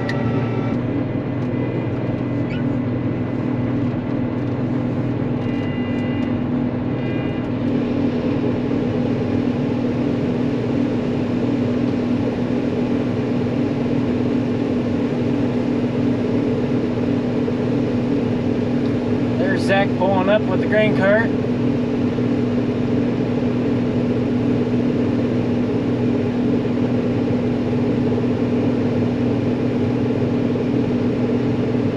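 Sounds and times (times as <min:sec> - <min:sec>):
combine harvester humming: 0:00.0 - 0:31.9.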